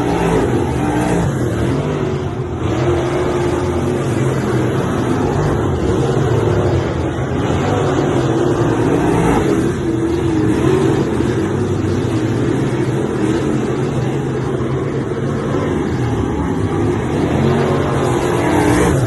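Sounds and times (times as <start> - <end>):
racing car engine drone: 0.0 - 19.0.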